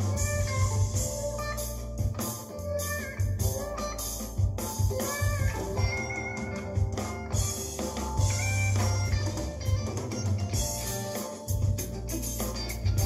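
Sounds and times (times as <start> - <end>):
song with singing guitar and drums: 0.0 - 13.0.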